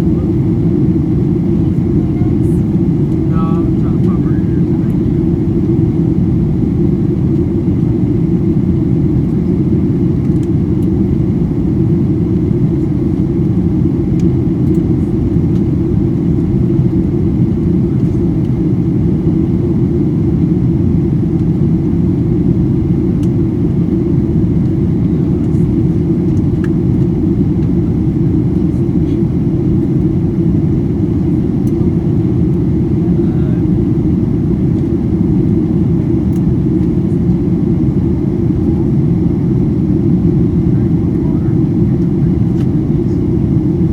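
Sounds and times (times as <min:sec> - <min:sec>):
airplane cabin rumble: 0:00.0 - 0:43.9.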